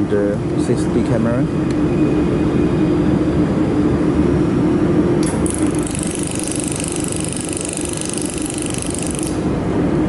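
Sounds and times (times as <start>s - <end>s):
machine fans humming: 0.0s - 10.0s.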